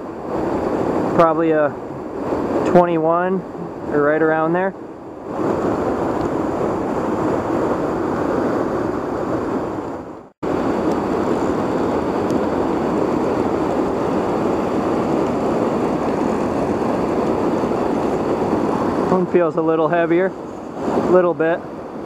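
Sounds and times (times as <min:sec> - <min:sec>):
river current rushing: 0:00.0 - 0:22.0.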